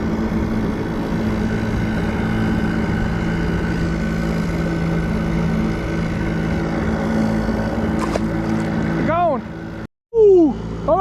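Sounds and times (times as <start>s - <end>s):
boat engine droning: 0.0s - 11.0s
wind: 0.0s - 11.0s.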